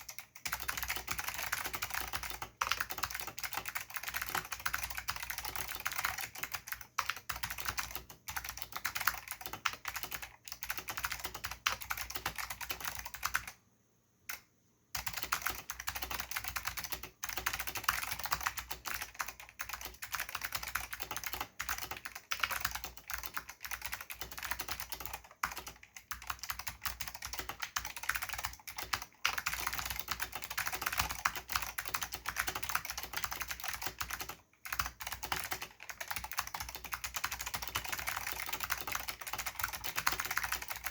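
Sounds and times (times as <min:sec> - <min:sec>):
fast typing on mechanical keyboard: 0:00.0 - 0:13.6, 0:15.0 - 0:40.9.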